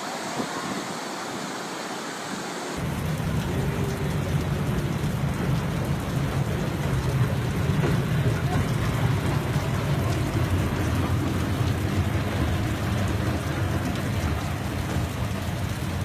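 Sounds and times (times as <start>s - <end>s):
heavy rain: 0.0s - 16.0s
deep storm rumble: 2.8s - 16.0s.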